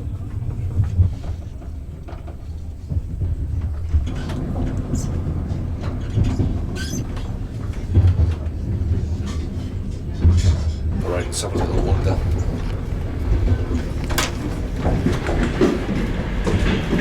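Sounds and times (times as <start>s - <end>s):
clicks and rattles: 0.0s - 17.0s
train low rumble: 0.0s - 17.0s.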